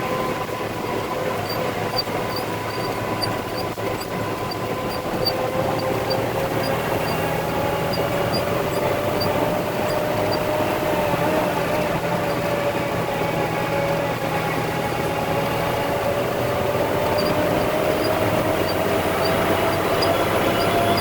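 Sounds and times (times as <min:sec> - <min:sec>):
diesel truck engine running: 0:00.0 - 0:21.0
high ticking: 0:01.4 - 0:13.0, 0:15.4 - 0:21.0.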